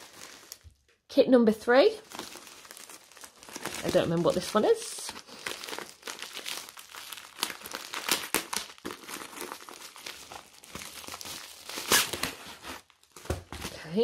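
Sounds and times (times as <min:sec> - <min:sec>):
plastic wrapping crinkling: 0:00.0 - 0:01.0, 0:01.9 - 0:14.0.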